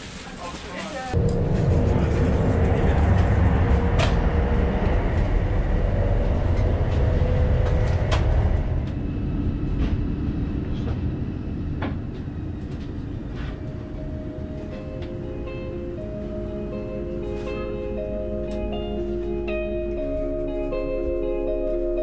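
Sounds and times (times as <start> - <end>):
train cabin rumble: 0.2 - 22.0.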